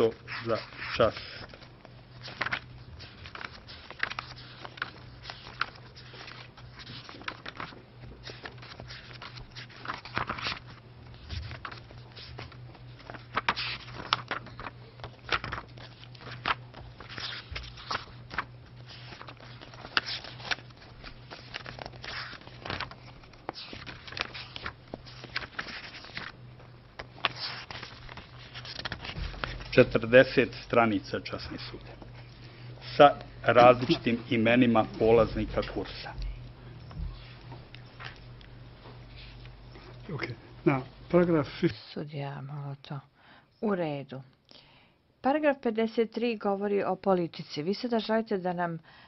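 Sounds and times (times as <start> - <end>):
paper pages rustling: 0.0 - 40.0.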